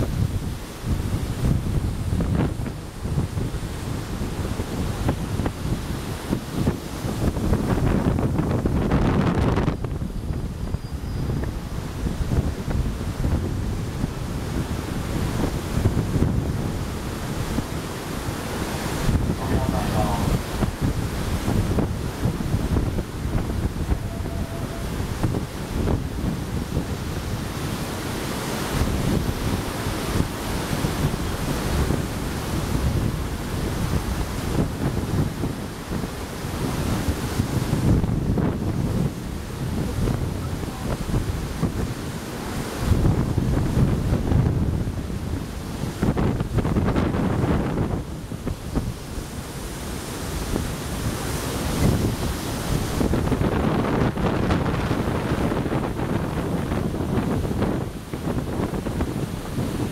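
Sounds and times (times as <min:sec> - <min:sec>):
rushing flooded river: 0:00.0 - 0:59.9
strong wind buffeting microphone: 0:00.0 - 0:59.9.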